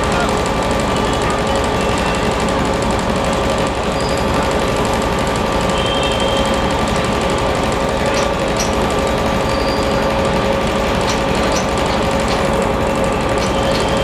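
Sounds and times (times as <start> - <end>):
locomotive machinery humming: 0.0 - 14.0.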